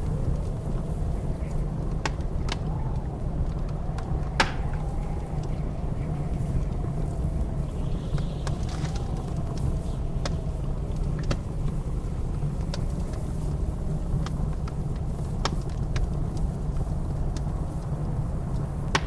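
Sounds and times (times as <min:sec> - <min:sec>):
blizzard wind howling: 0:00.0 - 0:19.0
wood fire crackling and popping: 0:00.0 - 0:19.0.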